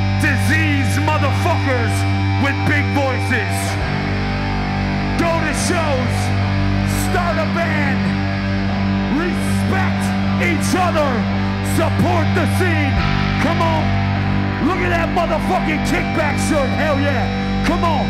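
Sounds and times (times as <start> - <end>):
punk band playing live: 0.0 - 18.0.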